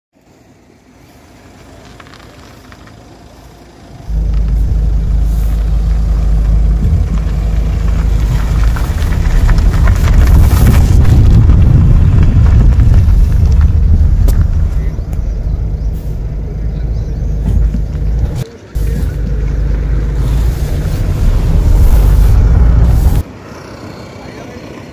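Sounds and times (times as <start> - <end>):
car turning with heavy rumble: 0.2 - 24.9.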